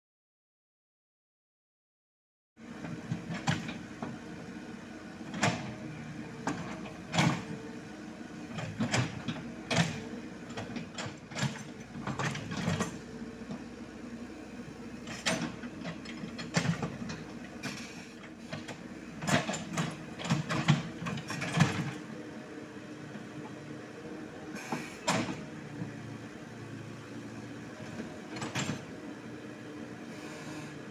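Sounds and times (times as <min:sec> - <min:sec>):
diesel engine running: 0:02.6 - 0:30.9.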